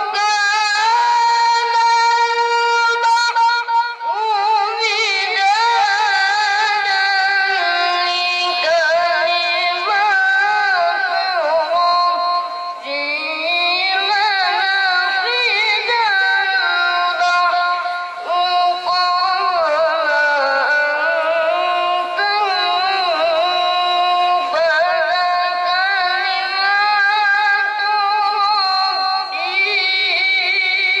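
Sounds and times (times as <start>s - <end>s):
child reciting melodically: 0.0s - 31.0s.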